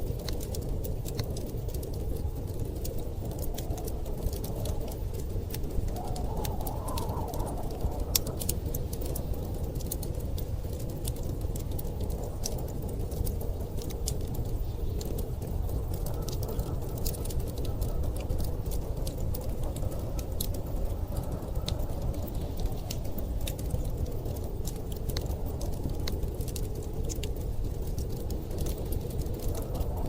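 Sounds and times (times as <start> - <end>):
wood fire crackling: 0.0 - 30.0
storm wind rushing: 1.4 - 30.0.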